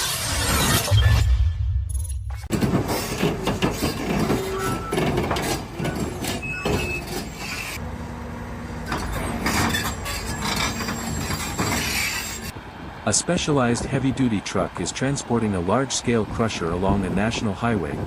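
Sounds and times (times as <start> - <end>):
heavy truck engine and road noise: 2.3 - 18.0.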